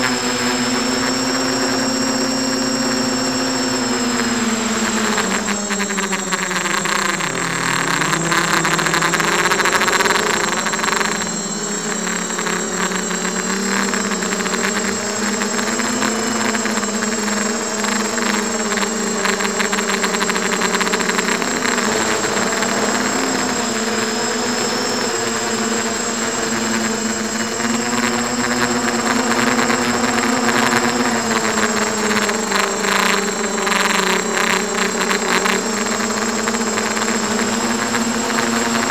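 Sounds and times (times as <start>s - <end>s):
drone motors and propellers buzzing: 0.0s - 38.9s
thin high whine: 0.0s - 38.9s.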